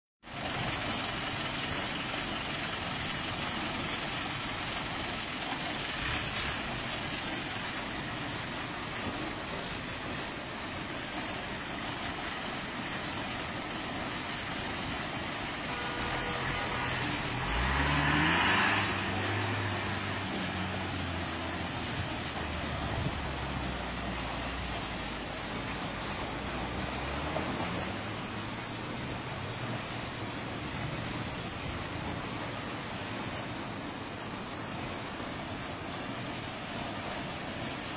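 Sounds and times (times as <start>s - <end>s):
vehicle engines running: 0.2s - 37.9s
waterfall rushing: 0.3s - 37.9s.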